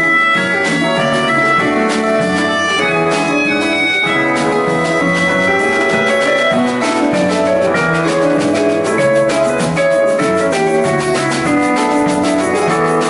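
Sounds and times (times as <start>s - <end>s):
drum kit steady beat: 0.0s - 13.0s
live band music: 0.0s - 13.0s.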